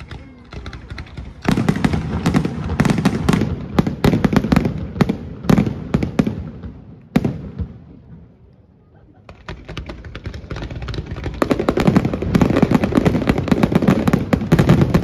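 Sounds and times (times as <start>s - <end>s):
fireworks bursts and bangs: 0.0s - 8.3s, 9.2s - 15.0s.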